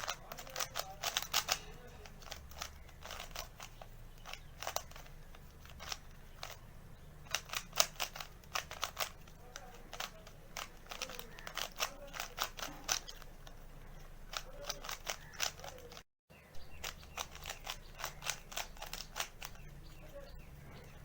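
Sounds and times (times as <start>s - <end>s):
puzzle cube plastic clicks: 0.0s - 16.0s, 16.6s - 20.3s.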